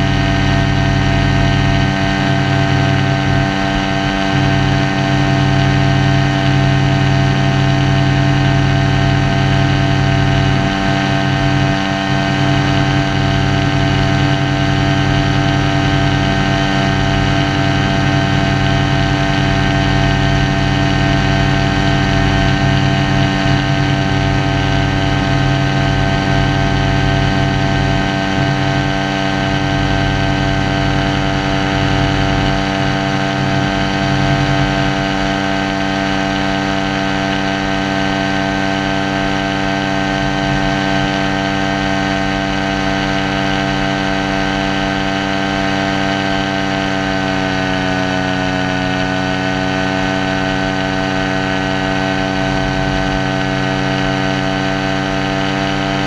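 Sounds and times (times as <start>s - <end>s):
paramotor engine droning: 0.0s - 56.0s.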